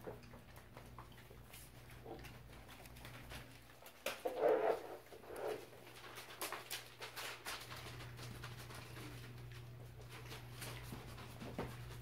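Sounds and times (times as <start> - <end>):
puppy paws pattering on floor: 0.0 - 12.0.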